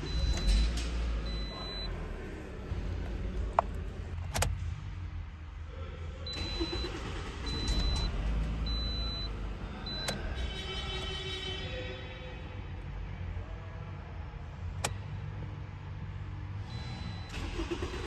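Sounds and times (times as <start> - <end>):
car engine cranking and idling: 0.0 - 10.4, 12.8 - 18.0.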